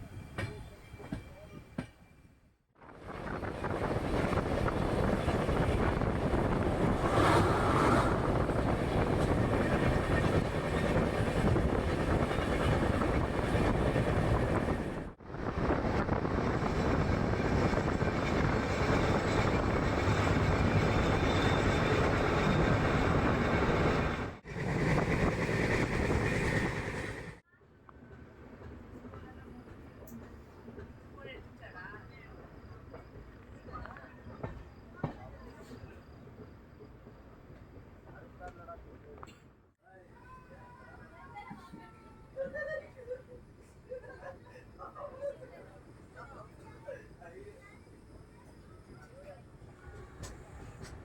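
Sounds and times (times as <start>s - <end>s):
train rumbling on rails: 2.8s - 39.4s, 40.2s - 51.0s.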